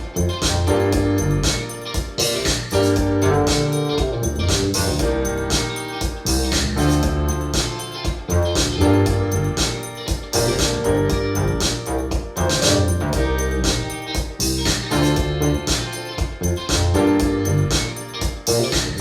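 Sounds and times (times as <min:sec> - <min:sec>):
music through hi-fi speakers: 0:00.0 - 0:19.0.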